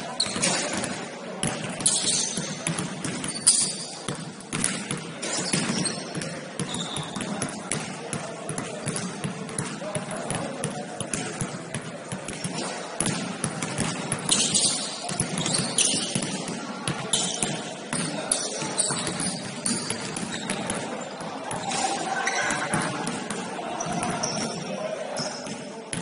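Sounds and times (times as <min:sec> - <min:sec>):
basketball bouncing on court: 0:00.2 - 0:24.6.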